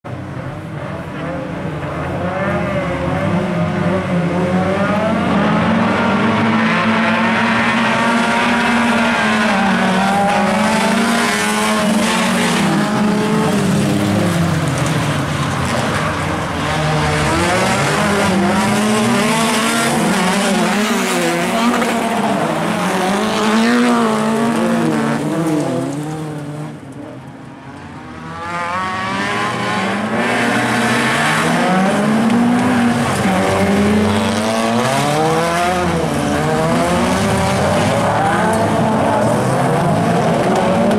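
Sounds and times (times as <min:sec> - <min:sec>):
racing car engines revving: 0:00.1 - 0:40.9.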